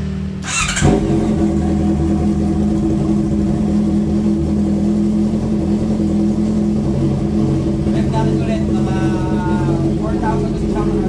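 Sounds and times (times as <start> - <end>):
motorcycle engine idling: 0.1 - 11.0.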